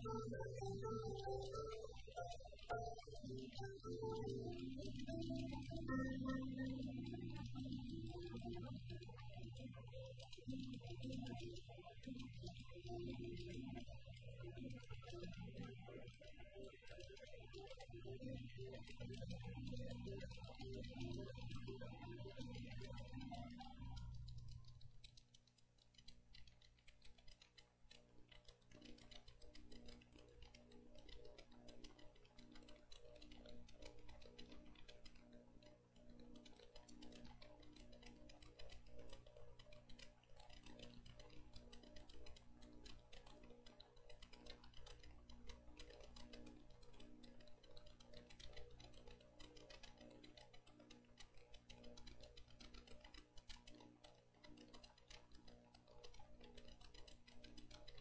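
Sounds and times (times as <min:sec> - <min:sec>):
soft regular ticking: 0:00.0 - 0:58.0.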